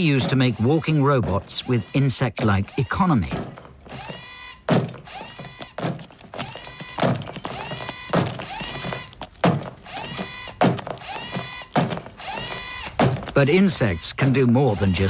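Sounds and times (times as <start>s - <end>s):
motor click: 0.0s - 14.0s
robot gear motors whining: 0.0s - 15.0s.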